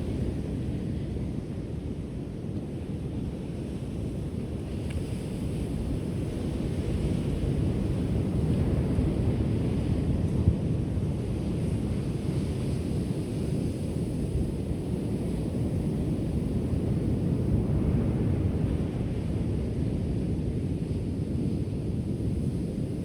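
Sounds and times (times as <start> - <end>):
waves rolling onto shore: 0.0 - 23.0.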